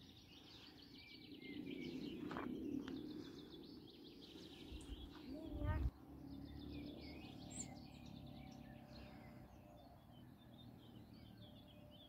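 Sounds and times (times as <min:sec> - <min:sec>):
faint birdsong chirping: 0:00.0 - 0:12.0
low steady background rumble: 0:01.0 - 0:12.0.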